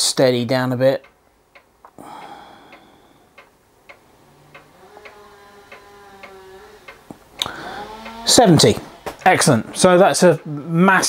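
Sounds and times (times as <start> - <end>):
faint steady hum: 0.1 - 11.0
clock ticking: 1.0 - 11.0.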